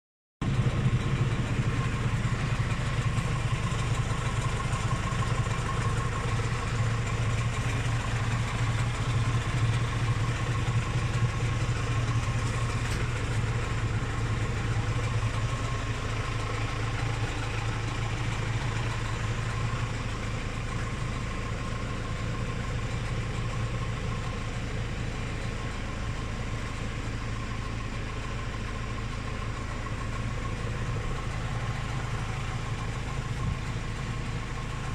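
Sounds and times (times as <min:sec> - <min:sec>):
tractor engine drone: 0:00.4 - 0:34.9.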